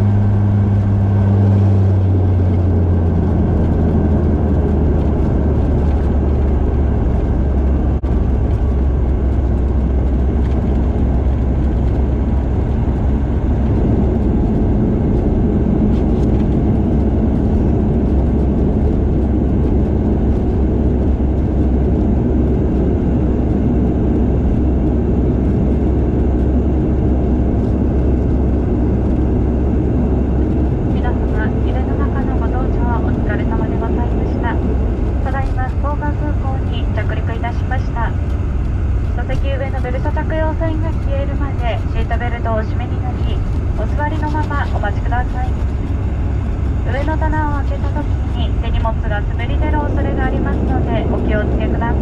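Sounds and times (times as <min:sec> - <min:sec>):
engine rush: 0:00.0 - 0:52.0
propeller drone: 0:00.0 - 0:52.0.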